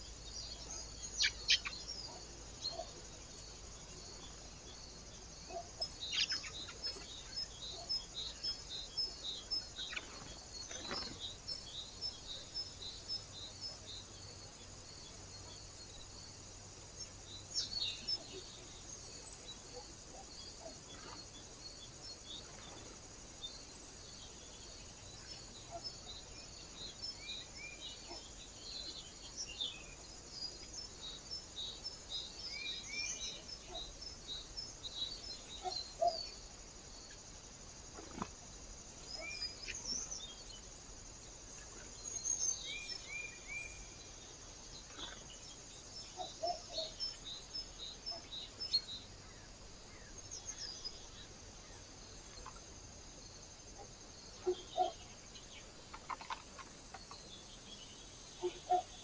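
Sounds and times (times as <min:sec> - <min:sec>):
small birds chirping: 0:00.0 - 0:59.0
steady background hiss: 0:00.0 - 0:59.0.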